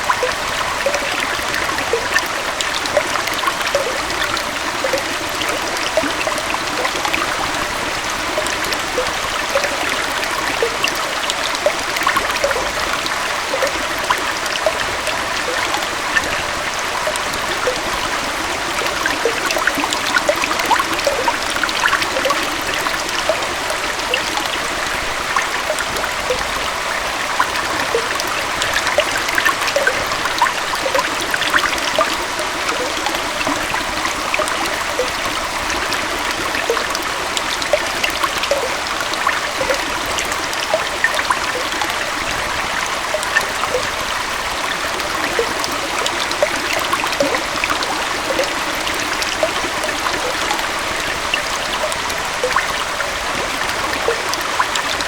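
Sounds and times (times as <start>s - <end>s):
small waterfall and stream: 0.0s - 55.0s.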